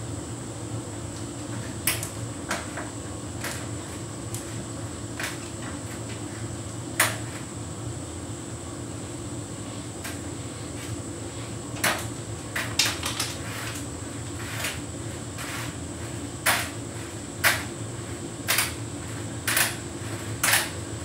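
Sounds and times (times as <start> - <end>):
tumble dryer humming: 0.0 - 21.0.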